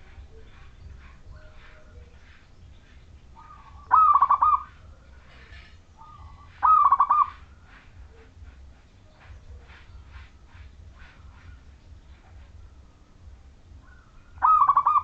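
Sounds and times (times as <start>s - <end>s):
dove cooing: 0.0s - 12.5s, 13.7s - 15.0s.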